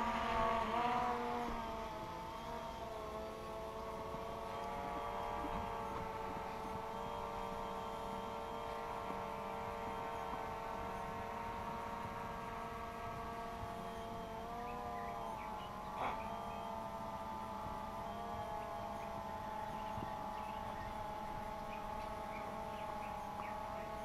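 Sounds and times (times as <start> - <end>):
drone propellers humming: 0.0 - 24.0.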